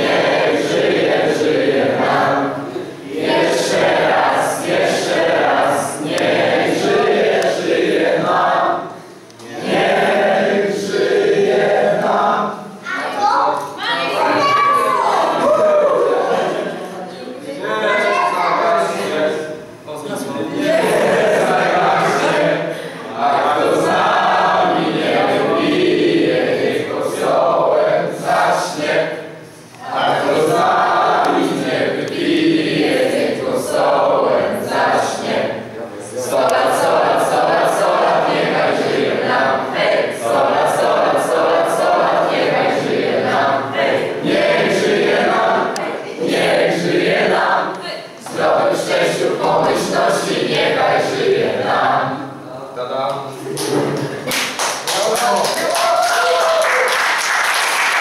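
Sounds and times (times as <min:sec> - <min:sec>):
group singing together: 0:00.0 - 0:58.0.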